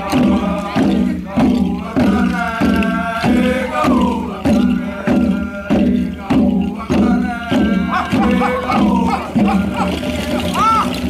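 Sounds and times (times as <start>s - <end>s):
group chanting in unison: 0.0s - 10.8s
steady drum beat: 0.0s - 11.0s.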